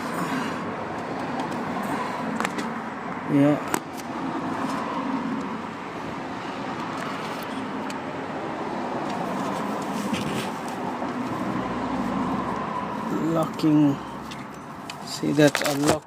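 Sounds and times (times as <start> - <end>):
background traffic noise: 0.0 - 16.0.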